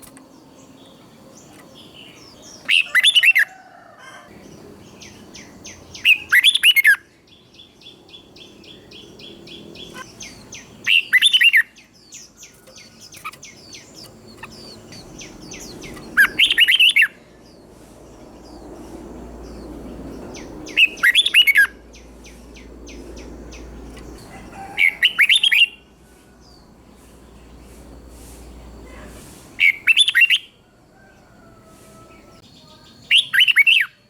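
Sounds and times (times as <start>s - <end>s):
bird song phrases: 0.0s - 34.0s
faint bird chirping: 4.3s - 34.0s.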